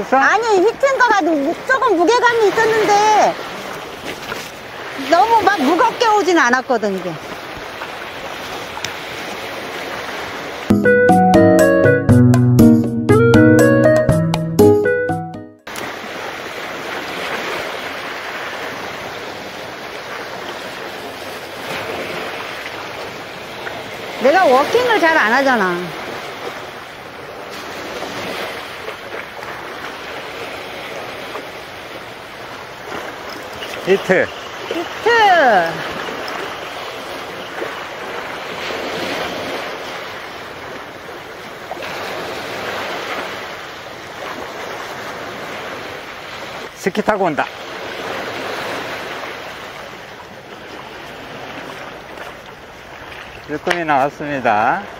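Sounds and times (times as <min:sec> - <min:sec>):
small waves breaking on concrete: 0:00.0 - 0:10.7, 0:15.7 - 0:46.7, 0:47.3 - 0:54.9.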